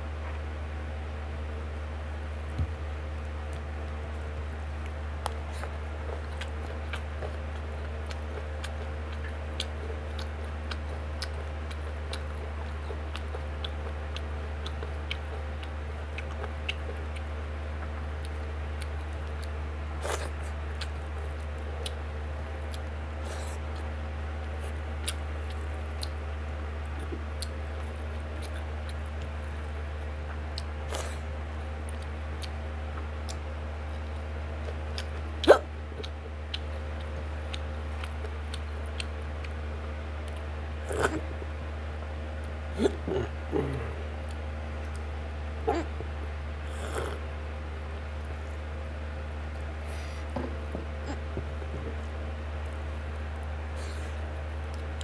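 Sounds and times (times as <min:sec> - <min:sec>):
steady low hum: 0:00.0 - 0:55.0
person chewing with wet smacks: 0:02.4 - 0:55.0.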